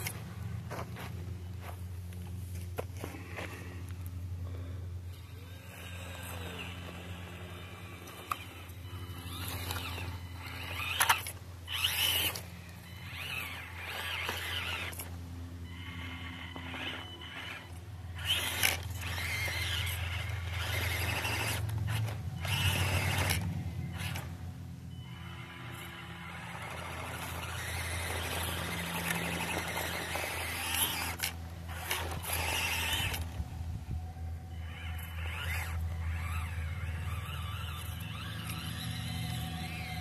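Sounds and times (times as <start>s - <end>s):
tyres scraping over dirt: 0.0s - 24.5s, 25.1s - 40.0s
small electric motor whining: 0.0s - 40.0s.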